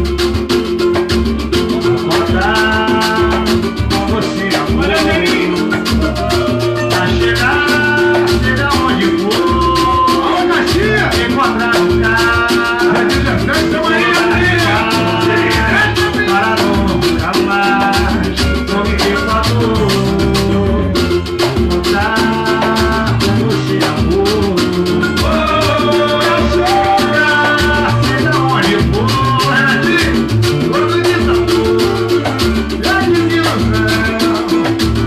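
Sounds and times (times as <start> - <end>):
band playing upbeat music: 0.0 - 35.0
shakers and drums: 0.0 - 35.0.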